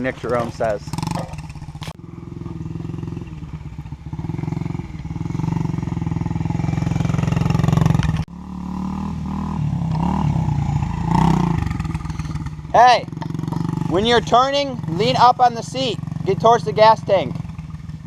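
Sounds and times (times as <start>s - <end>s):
small motorbike engine revving: 0.0s - 18.0s.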